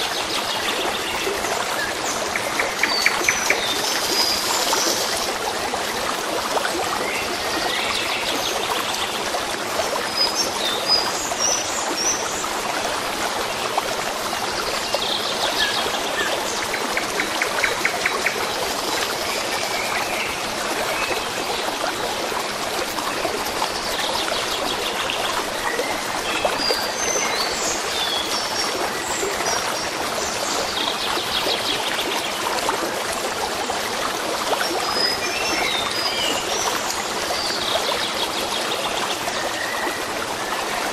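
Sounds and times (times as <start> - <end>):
stream of water running: 0.0 - 40.9.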